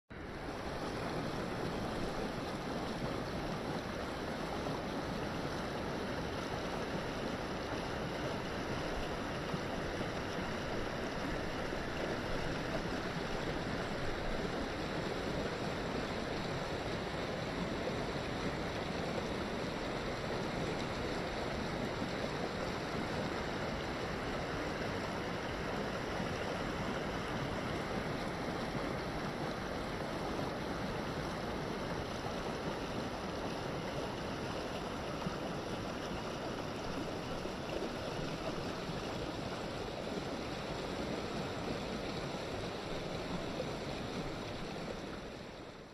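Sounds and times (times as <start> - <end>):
water running over rocks: 0.1 - 45.9.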